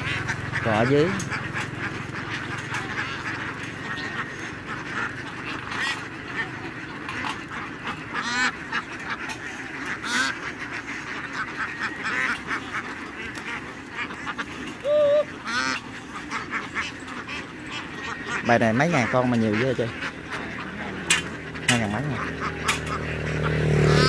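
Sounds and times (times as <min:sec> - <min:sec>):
flock of ducks quacking: 0:00.0 - 0:24.0.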